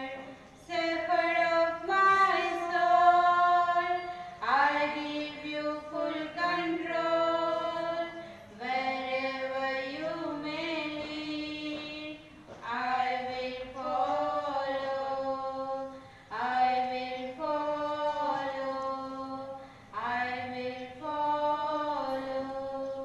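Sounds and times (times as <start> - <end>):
women singing a hymn: 0.0 - 23.0.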